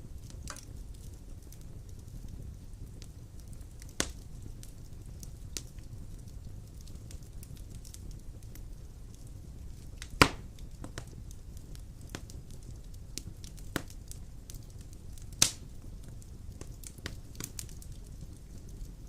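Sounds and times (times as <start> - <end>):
fire crackles: 0.0 - 19.0
fire rumbling: 0.0 - 19.0
loud fire pops: 0.0 - 19.0.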